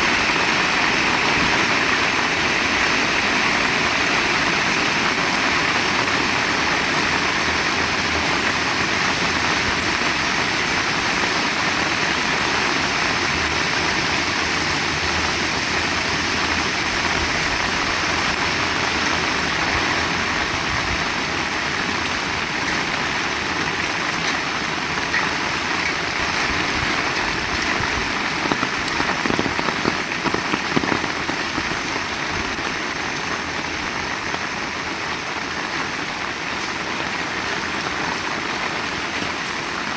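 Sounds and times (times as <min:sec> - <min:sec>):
heavy rain falling: 0:00.0 - 0:39.9
rain spatters: 0:00.0 - 0:39.9.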